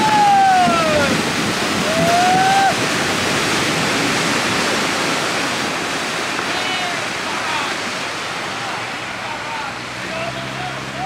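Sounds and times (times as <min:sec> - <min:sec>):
boat hull splashing into water: 0:00.0 - 0:11.0.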